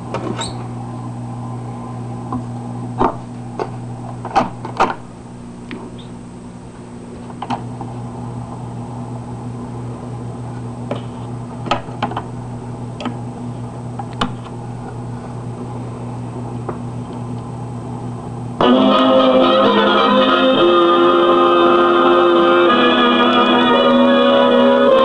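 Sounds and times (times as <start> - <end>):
record player humming: 0.0 - 25.0.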